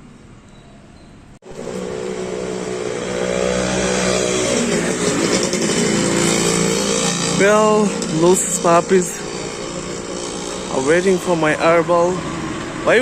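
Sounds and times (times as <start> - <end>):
motor vehicle engine running: 1.4 - 13.0.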